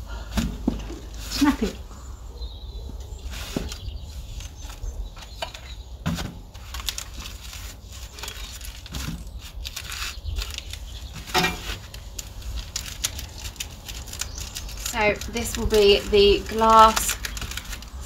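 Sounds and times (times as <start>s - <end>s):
packaging rustling and tearing: 3.2s - 18.0s.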